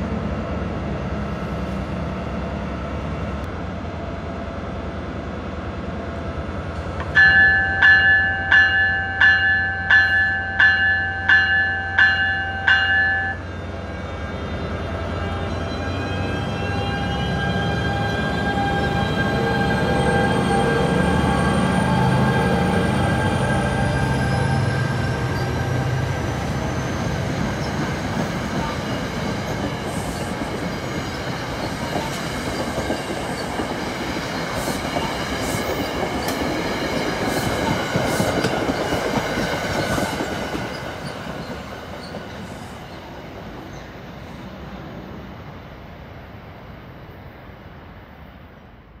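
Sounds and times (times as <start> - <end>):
train wheels rumbling: 0.0 - 45.6.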